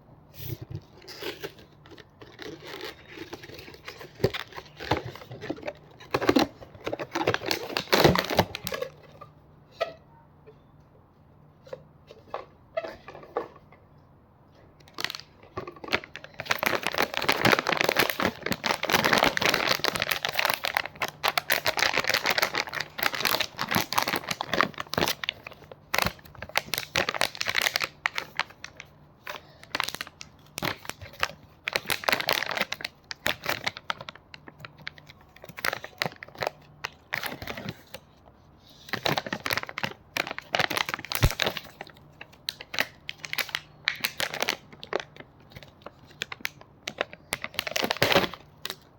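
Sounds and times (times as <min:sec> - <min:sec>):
packaging crinkling and tearing: 0:00.4 - 0:09.0, 0:14.9 - 0:48.9.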